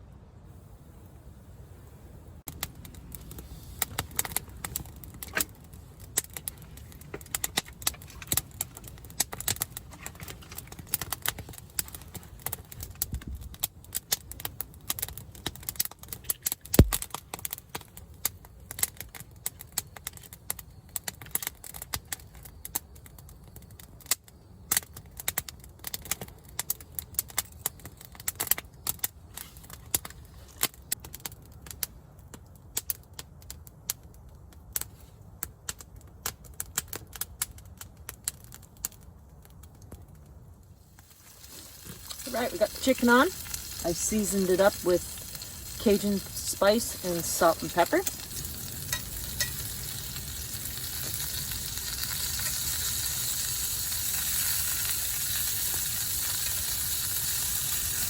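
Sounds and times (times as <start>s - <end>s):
campfire crackling and popping: 0.5s - 58.0s.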